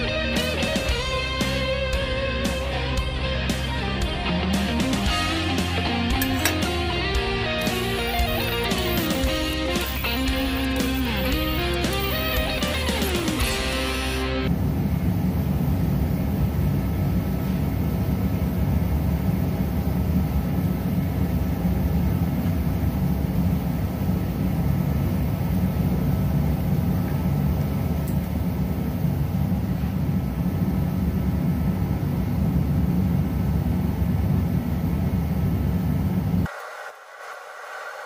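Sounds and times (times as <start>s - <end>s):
machinery droning: 0.0s - 38.0s.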